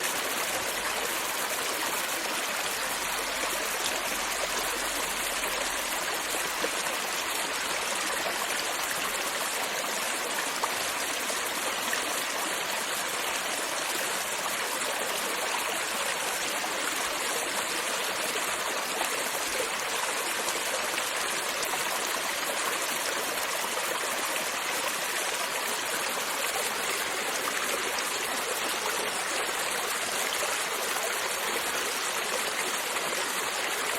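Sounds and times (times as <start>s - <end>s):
creek water trickling over stones: 0.0s - 33.9s.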